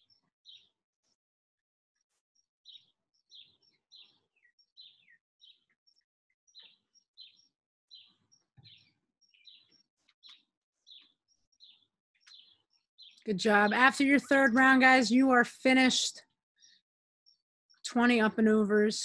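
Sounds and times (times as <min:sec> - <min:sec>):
bird chirping: 0:00.0 - 0:01.2, 0:02.4 - 0:19.0.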